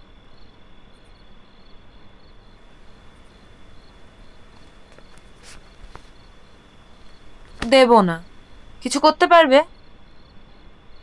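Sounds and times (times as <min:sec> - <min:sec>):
faint high hiss: 0:00.6 - 0:11.0.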